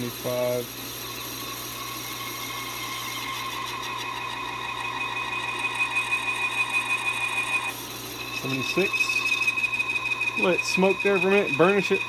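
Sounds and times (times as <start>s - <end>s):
high-pitched cutting squeal: 0.0s - 12.0s
metal lathe running: 0.0s - 12.0s.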